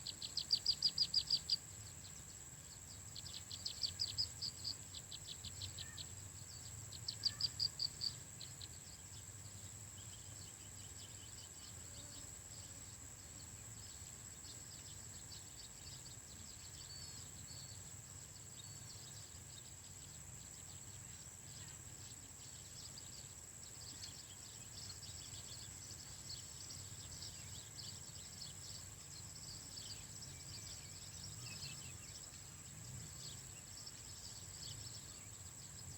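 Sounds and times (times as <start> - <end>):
faint chirping calls: 0.0 - 35.9
high insect drone: 0.0 - 35.9.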